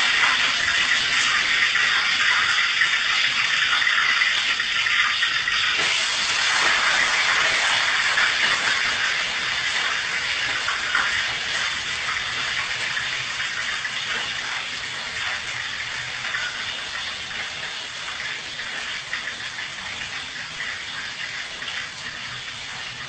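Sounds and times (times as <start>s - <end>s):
hot oil sizzling in a wok: 0.0s - 23.0s.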